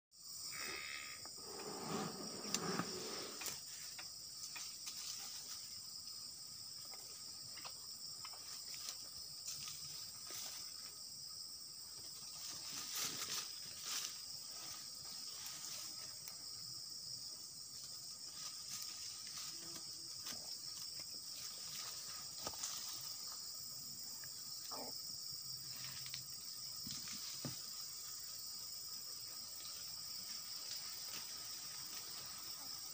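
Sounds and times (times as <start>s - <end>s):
high-pitched insect chorus: 0.2s - 32.9s.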